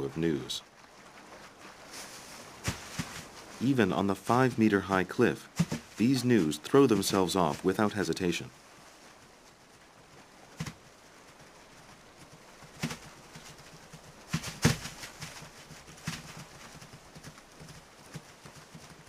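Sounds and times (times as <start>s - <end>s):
faint steady hiss: 0.0s - 19.0s
hooves thudding on dry ground: 0.8s - 19.0s.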